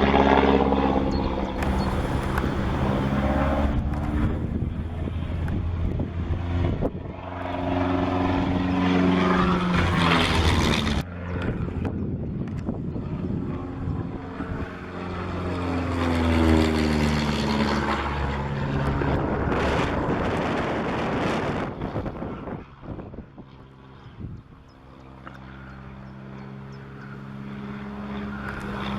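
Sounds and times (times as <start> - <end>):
propeller plane droning past: 0.0 - 28.9.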